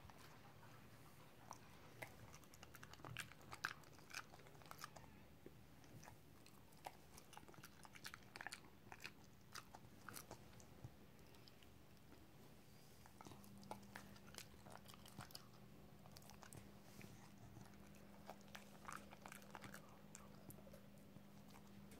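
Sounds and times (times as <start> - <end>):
dog chewing: 0.1 - 5.2, 5.8 - 12.2, 13.0 - 21.9.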